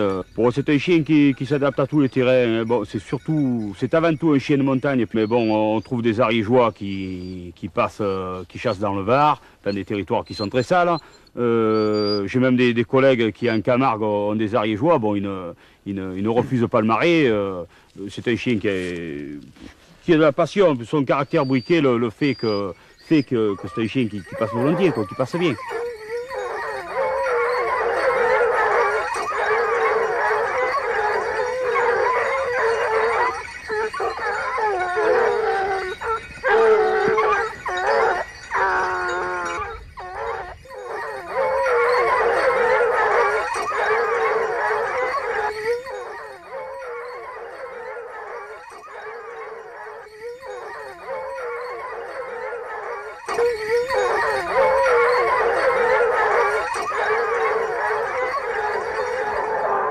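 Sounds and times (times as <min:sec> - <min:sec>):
hounds baying: 0:00.0 - 0:59.9.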